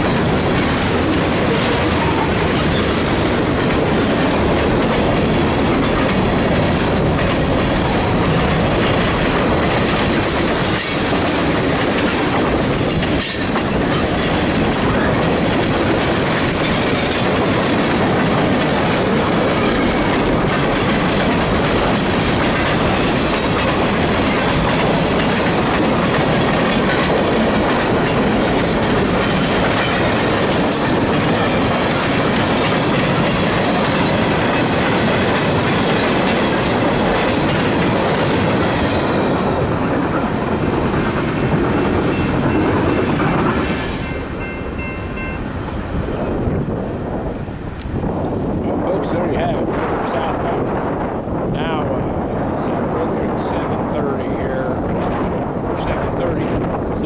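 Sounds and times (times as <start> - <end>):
steel wheels clattering on rails: 0.0 - 46.2
freight train rolling past: 0.0 - 57.0.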